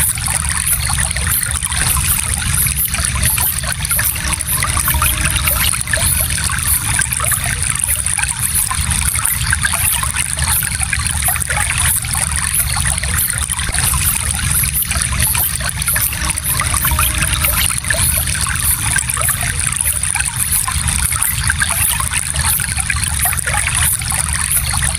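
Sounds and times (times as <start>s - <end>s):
stream trickling over stones: 0.0s - 24.9s.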